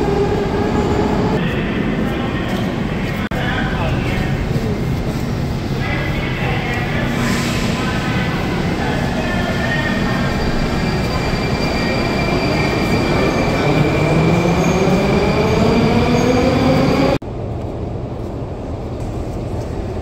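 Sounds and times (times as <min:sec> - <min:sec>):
rumble of train wheels: 0:00.0 - 0:20.0.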